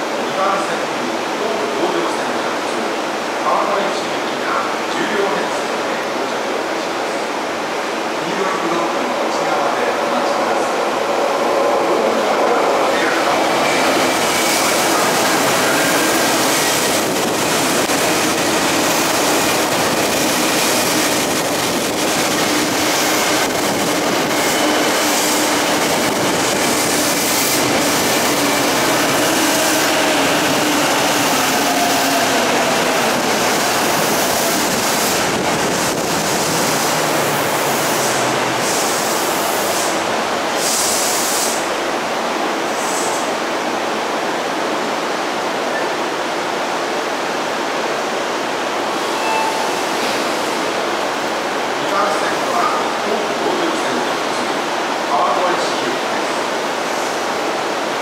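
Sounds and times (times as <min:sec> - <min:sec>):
train wheel and rail noise: 0:00.0 - 0:58.0.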